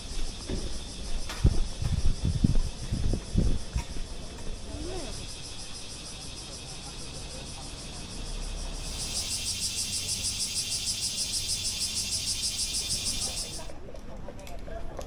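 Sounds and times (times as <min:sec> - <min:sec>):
cicada buzzing: 0:00.0 - 0:13.7.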